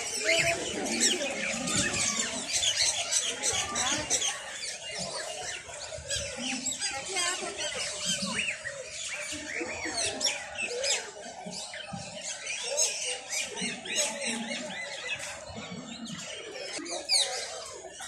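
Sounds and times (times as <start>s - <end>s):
caged birds chirping and squawking: 0.0s - 18.0s.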